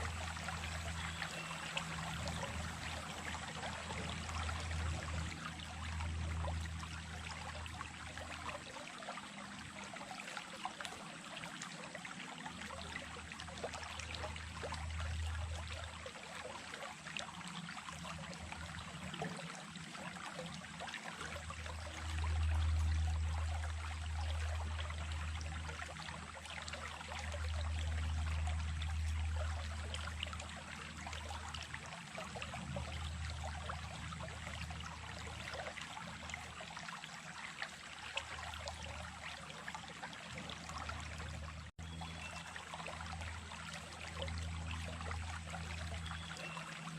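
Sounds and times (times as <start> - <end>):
stream trickling and splashing: 0.0 - 46.9.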